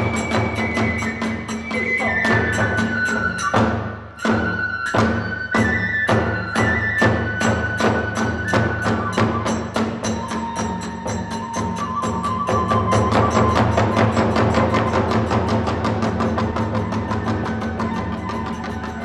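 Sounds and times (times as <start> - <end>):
bamboo flute long notes: 0.0 - 19.0
hand cymbals and drums beating: 0.0 - 19.0.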